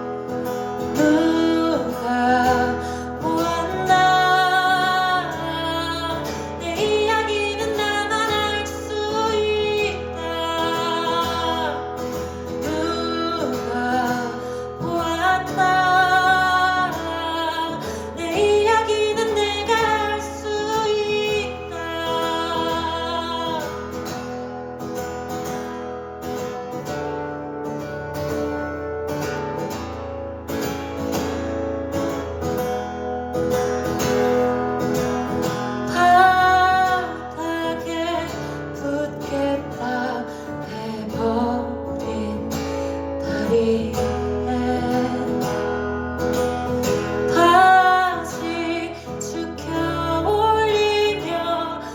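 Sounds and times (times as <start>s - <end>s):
woman singing: 0.0s - 24.6s, 33.9s - 51.9s
strummed acoustic guitar: 0.0s - 51.9s.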